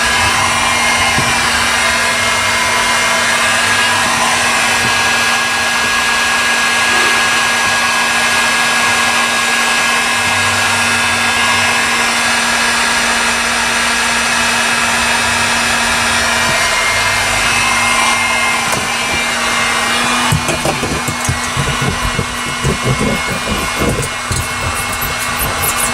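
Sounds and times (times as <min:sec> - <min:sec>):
heat gun blowing: 0:00.0 - 0:25.9.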